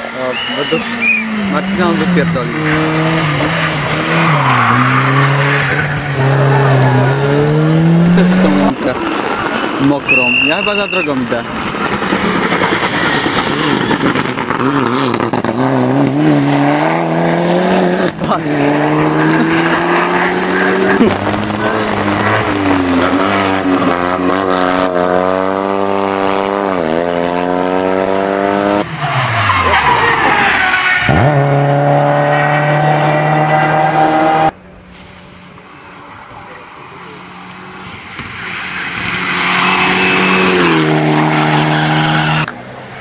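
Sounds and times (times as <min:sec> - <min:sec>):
race car engine revving: 0:00.0 - 0:34.6, 0:36.6 - 0:42.6.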